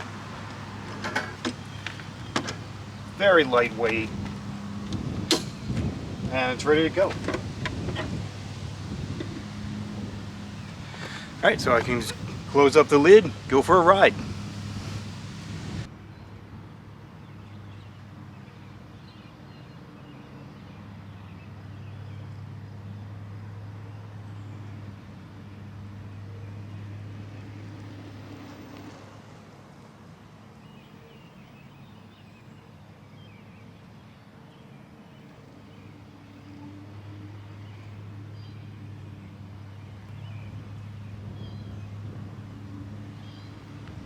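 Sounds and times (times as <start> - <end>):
faint birds chirping: 0.0 - 29.0, 29.8 - 44.0
low vehicle hum: 0.0 - 44.0.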